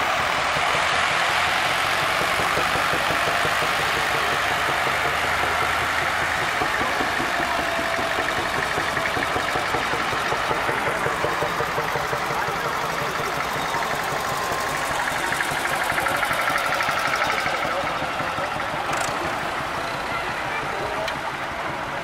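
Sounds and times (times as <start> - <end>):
tractor engines chugging: 0.0 - 22.0.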